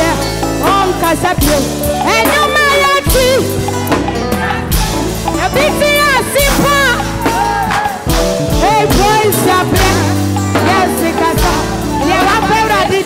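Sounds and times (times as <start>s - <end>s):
woman singing: 0.0s - 7.1s, 8.6s - 13.0s
bass notes: 0.0s - 13.0s
gospel band playing: 0.0s - 13.0s
drum hits: 1.4s - 12.8s.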